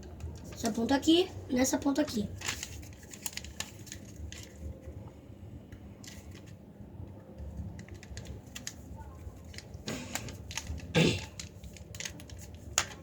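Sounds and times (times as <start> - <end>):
paper crinkling while folded: 0.0 - 5.0, 5.8 - 13.0.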